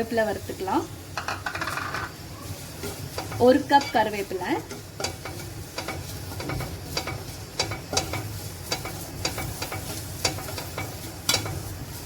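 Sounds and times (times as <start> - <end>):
leaves sizzling in a hot pan: 0.0 - 12.0
spatula scraping a pan: 1.2 - 12.0.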